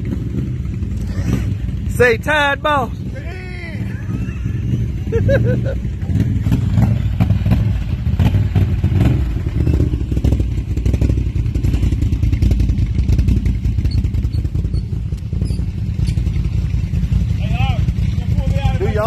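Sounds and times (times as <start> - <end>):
atv engine running hard: 0.0 - 19.0.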